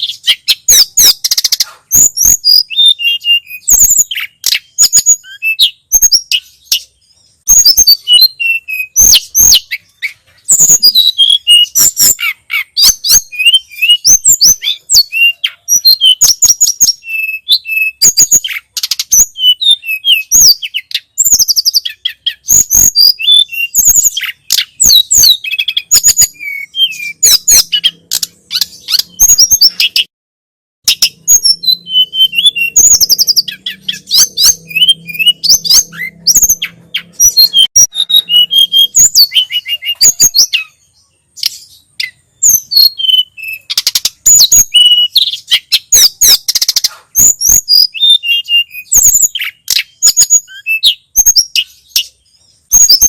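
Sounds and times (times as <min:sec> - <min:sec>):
songbird singing: 0:00.0 - 0:30.1, 0:30.8 - 0:53.0.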